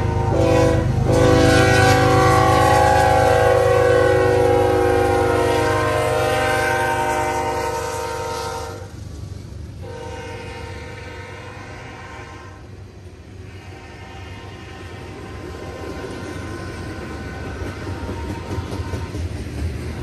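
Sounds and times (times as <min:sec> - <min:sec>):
locomotive horn blowing: 0:00.0 - 0:08.9, 0:09.8 - 0:12.8, 0:13.4 - 0:19.3
diesel locomotives rumbling past: 0:00.0 - 0:20.0.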